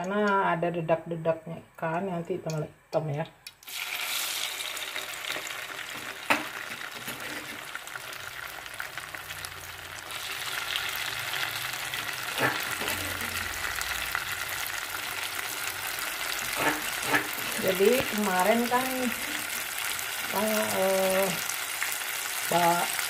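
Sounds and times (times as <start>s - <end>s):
chili paste sizzling in hot oil: 3.6s - 23.0s.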